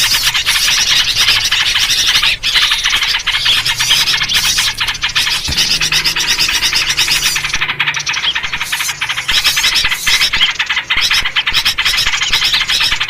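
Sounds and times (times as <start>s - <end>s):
small birds chattering: 0.0s - 13.0s.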